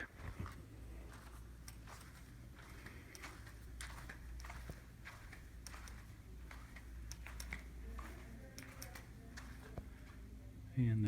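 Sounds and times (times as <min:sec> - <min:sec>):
faint footsteps: 0:00.0 - 0:10.8
steady low hum: 0:00.0 - 0:11.0.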